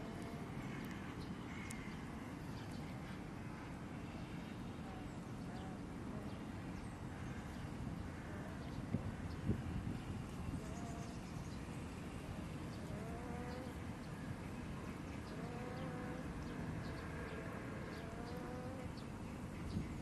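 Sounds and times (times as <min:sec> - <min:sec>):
low rumble of background noise: 0:00.0 - 0:20.0.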